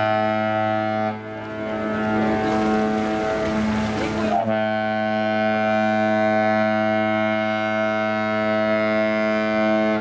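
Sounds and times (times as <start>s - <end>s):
ship horn blast: 0.0s - 10.0s.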